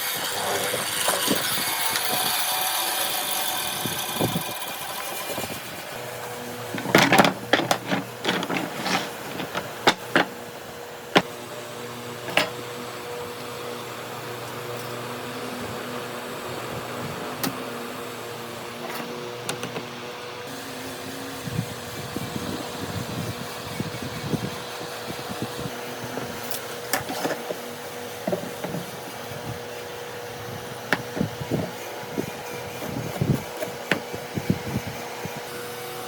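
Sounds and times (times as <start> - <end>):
motor hum: 0.0 - 36.0.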